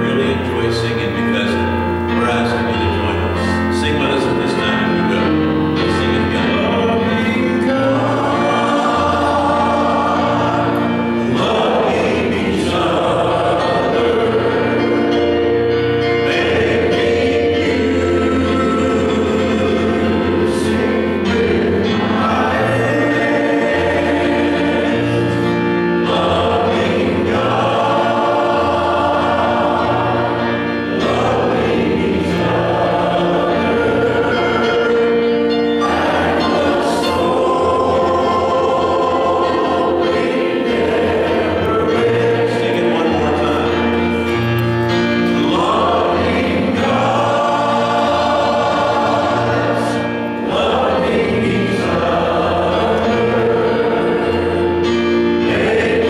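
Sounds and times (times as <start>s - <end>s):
choir singing in harmony: 0.0s - 56.0s
instrumental accompaniment: 0.0s - 56.0s.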